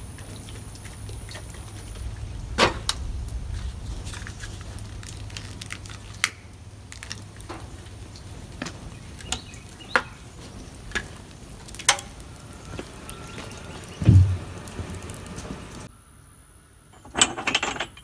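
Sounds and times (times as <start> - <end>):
charcoal popping and crackling: 0.0 - 15.9.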